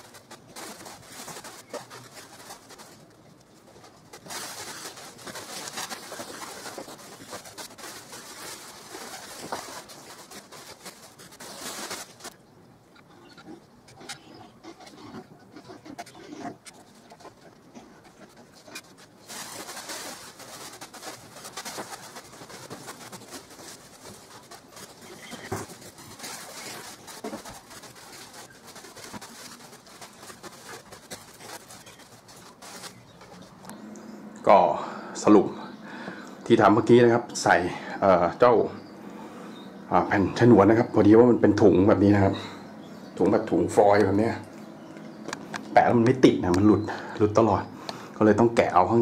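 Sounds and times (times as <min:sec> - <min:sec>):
foil insulation crinkling: 0:00.0 - 0:34.6, 0:35.2 - 0:47.6, 0:48.2 - 0:49.0.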